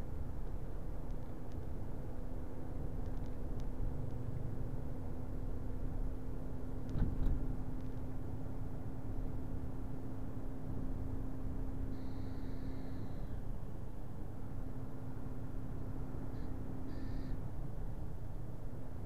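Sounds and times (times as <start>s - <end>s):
faint constant hum: 0.0s - 19.0s
vehicle road and engine rumble: 0.0s - 19.0s.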